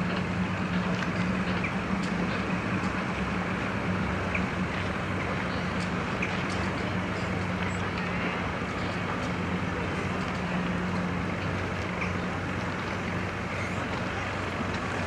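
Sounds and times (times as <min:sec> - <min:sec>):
low engine hum: 0:00.0 - 0:15.0
outdoor noise: 0:00.0 - 0:15.0.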